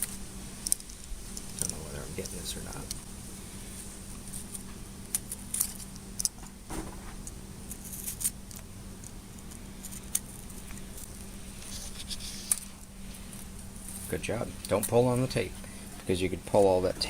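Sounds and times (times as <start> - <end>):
steady low hum: 0.0 - 17.0
tape crackling and clicking: 0.0 - 17.0.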